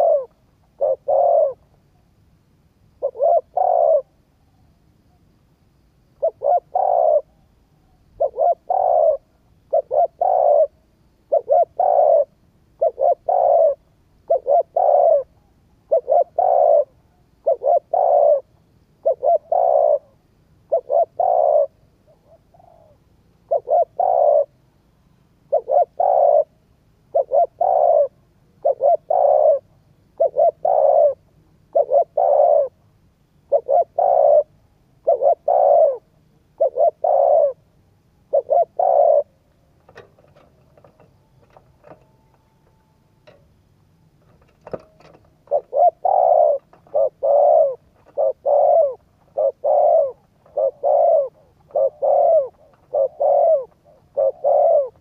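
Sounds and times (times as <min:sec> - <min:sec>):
dove cooing: 0:00.0 - 0:02.0, 0:03.0 - 0:05.2, 0:06.1 - 0:24.7, 0:25.4 - 0:43.4, 0:44.3 - 0:55.0.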